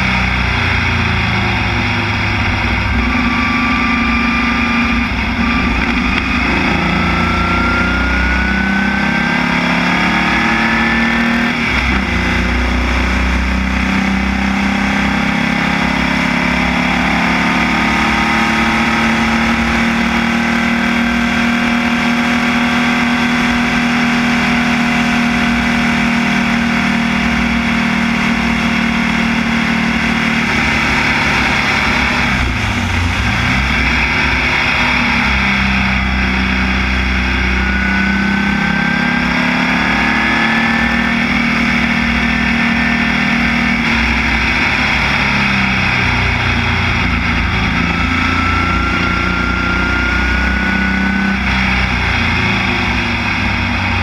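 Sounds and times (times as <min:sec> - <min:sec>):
racing car engine at high revs: 0:00.0 - 0:54.0.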